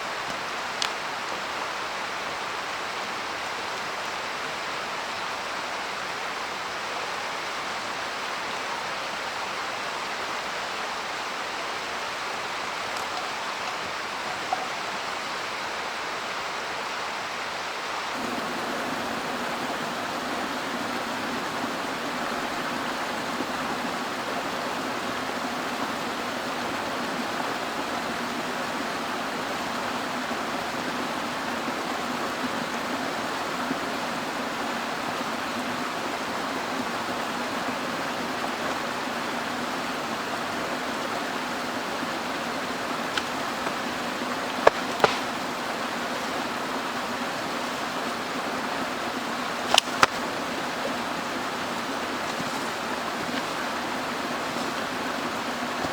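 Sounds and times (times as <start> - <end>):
mountain stream flowing: 0.0 - 55.9.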